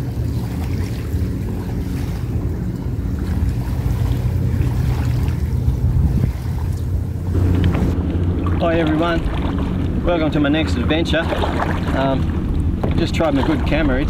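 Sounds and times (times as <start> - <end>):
low motor drone: 0.0 - 14.0
wind buffeting microphone: 0.0 - 14.0.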